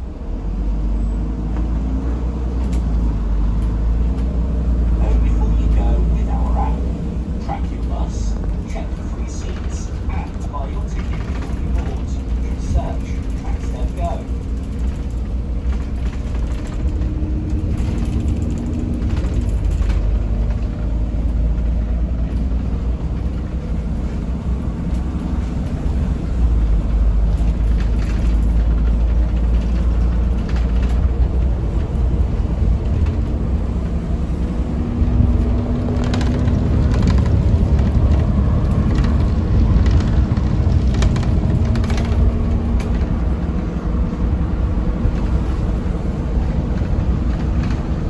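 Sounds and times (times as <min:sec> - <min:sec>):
bus engine and road rumble: 0:00.0 - 0:48.0
faint body rattles: 0:07.6 - 0:48.0.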